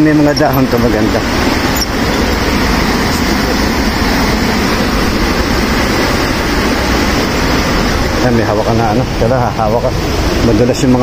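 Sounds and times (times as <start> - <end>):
stream rushing through gorge: 0.0 - 11.0.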